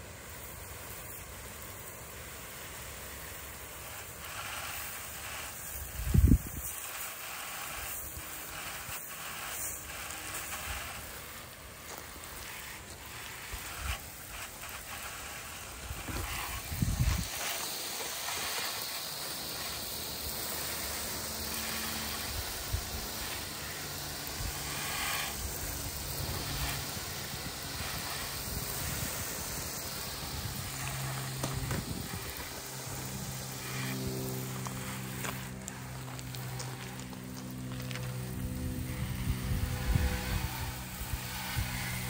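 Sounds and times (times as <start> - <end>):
water hissing from hose nozzle: 0.0 - 42.0.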